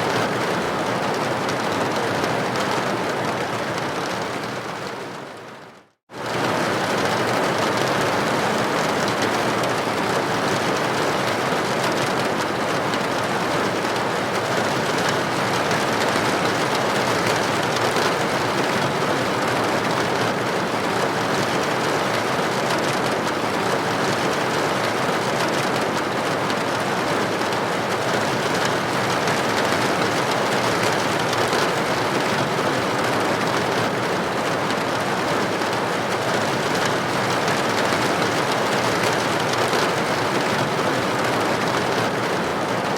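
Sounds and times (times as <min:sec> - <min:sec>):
rain on window: 0:00.1 - 0:42.9.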